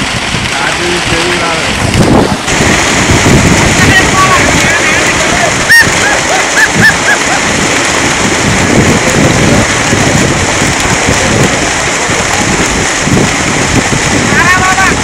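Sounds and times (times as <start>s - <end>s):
fish splashing in a net: 0.0s - 15.0s.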